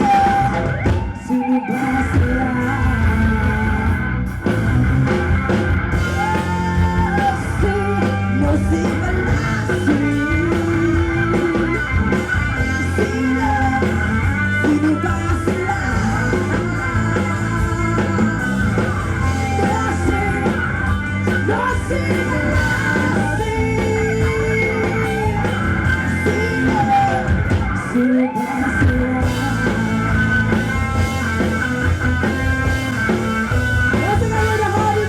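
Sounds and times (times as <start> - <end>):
person singing: 0.0 - 4.1, 6.0 - 30.2, 33.9 - 35.0
electric guitar: 0.0 - 35.0
live rock band playing: 0.0 - 35.0.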